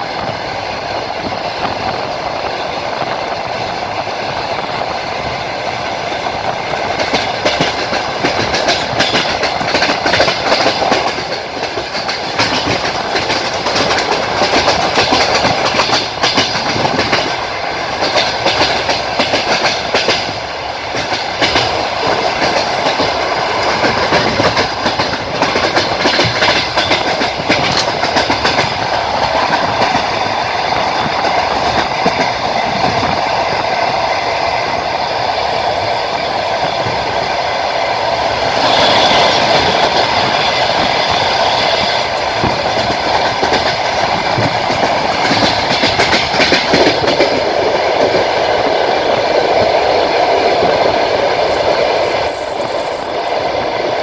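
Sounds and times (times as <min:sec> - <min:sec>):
train rumbling and rattling: 0:00.0 - 0:54.0
wheels clacking over rail joints: 0:05.2 - 0:34.0, 0:36.6 - 0:51.9.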